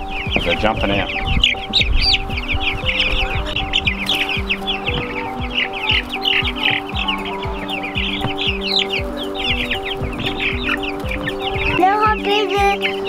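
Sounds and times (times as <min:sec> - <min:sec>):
background music with low beat: 0:00.0 - 0:13.0
chicks peeping: 0:00.0 - 0:13.0.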